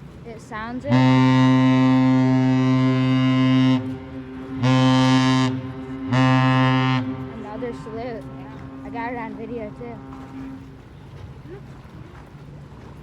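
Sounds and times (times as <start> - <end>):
deep ship's horn blasts: 0.5 - 12.1.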